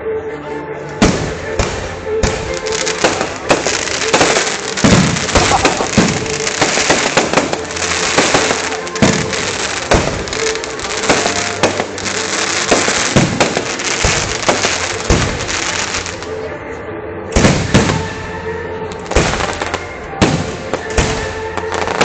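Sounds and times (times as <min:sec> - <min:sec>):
fireworks bangs and crackling: 0:01.0 - 0:16.3, 0:17.4 - 0:22.0.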